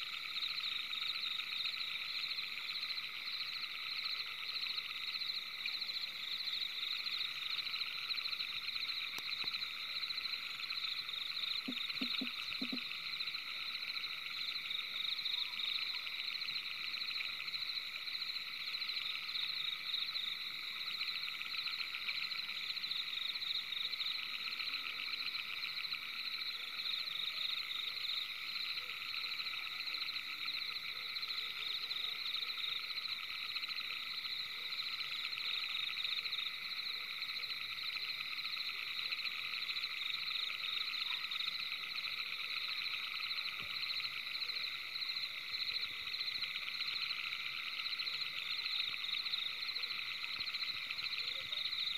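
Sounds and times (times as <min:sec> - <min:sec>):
frogs trilling: 0:00.0 - 0:51.9.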